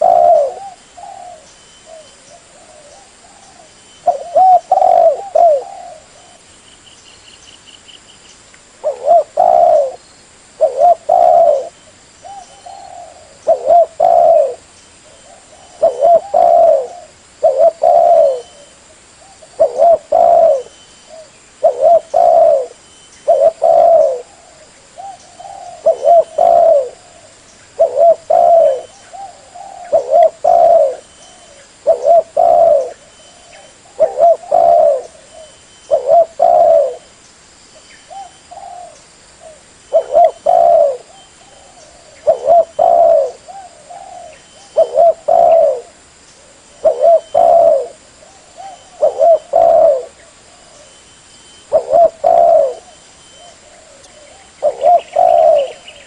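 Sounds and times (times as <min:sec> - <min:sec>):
dove cooing: 0:00.0 - 0:06.5, 0:08.8 - 0:37.1, 0:38.1 - 0:51.0, 0:51.6 - 0:56.0.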